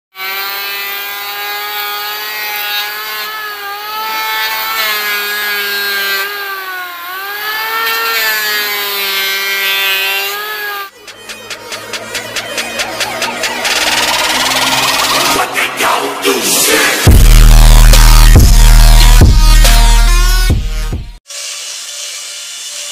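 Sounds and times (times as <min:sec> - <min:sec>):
electric planer shaving wood: 0:00.1 - 0:22.9.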